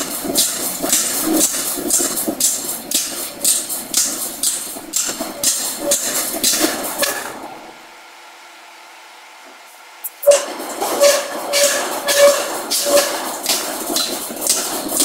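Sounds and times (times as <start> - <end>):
power hammer striking steel: 0.0 - 7.6, 10.2 - 15.0
steady machine hum: 0.0 - 15.0.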